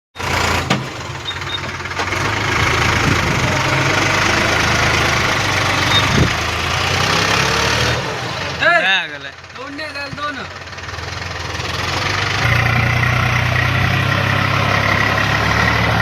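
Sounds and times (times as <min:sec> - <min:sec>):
tractor diesel engine running: 0:00.2 - 0:16.0.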